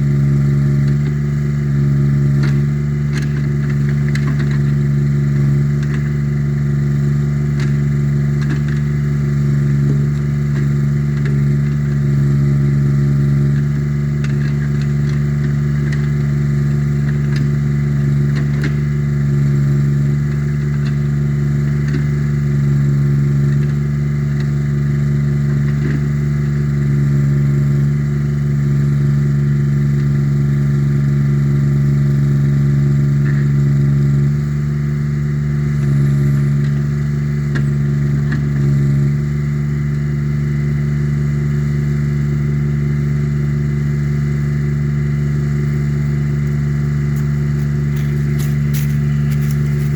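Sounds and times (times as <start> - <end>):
backhoe engine running: 0.0 - 49.9.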